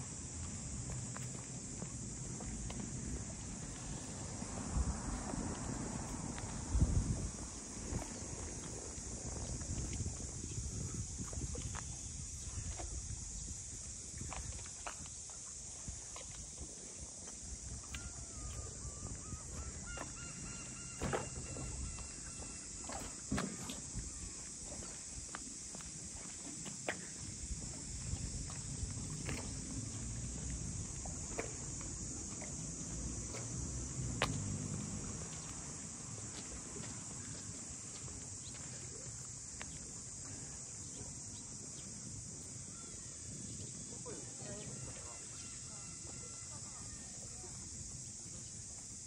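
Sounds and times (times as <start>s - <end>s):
cicadas droning: 0.0s - 49.0s.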